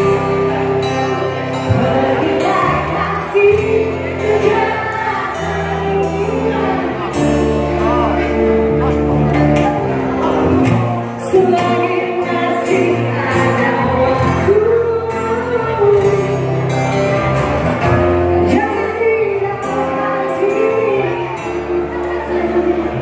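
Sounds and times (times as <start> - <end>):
woman singing into a microphone: 0.0 - 8.9, 10.8 - 16.8, 17.8 - 23.0
acoustic guitar: 0.0 - 23.0.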